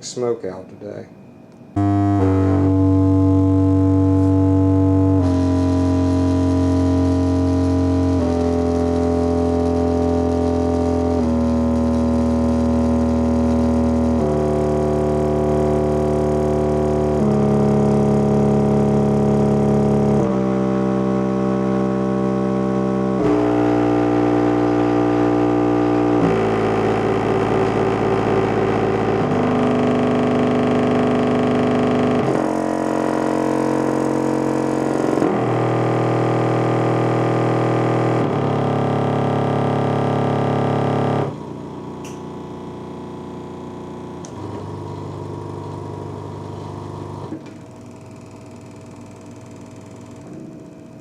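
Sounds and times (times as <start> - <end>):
subwoofer test tones: 0.0 - 47.7.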